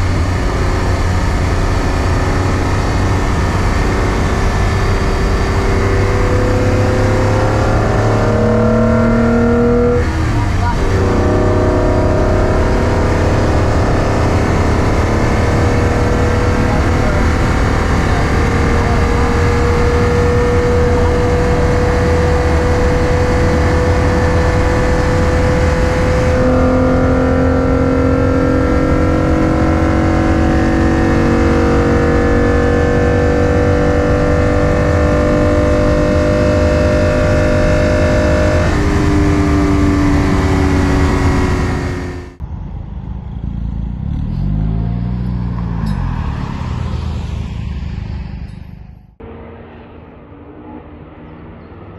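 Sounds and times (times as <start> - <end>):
car engine accelerating hard: 0.0 - 51.9.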